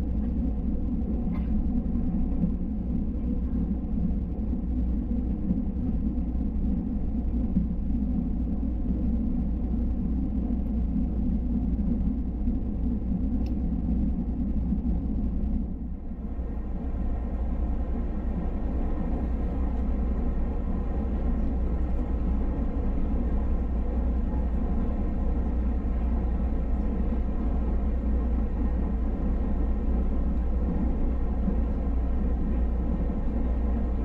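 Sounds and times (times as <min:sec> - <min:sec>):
faint hum: 0:00.0 - 0:34.0
train running rumble: 0:00.0 - 0:34.0.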